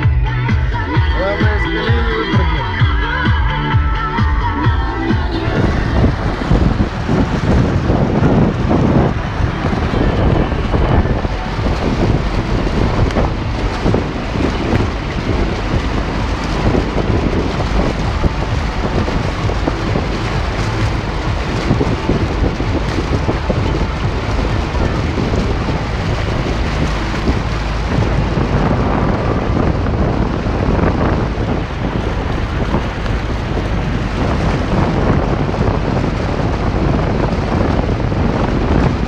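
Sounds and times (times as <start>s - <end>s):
car wheel splashing through water: 4.3s - 39.0s.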